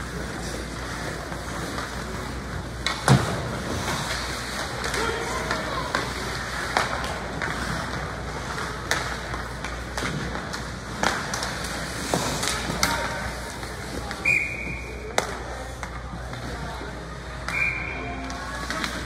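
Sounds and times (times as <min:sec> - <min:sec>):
spectators' voices: 0:00.0 - 0:19.0.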